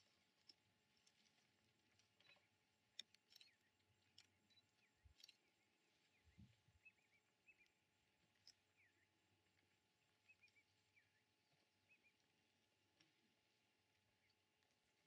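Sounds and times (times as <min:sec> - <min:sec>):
faint clicks: 0:00.0 - 0:15.0
faint outdoor bush ambience: 0:00.0 - 0:15.0.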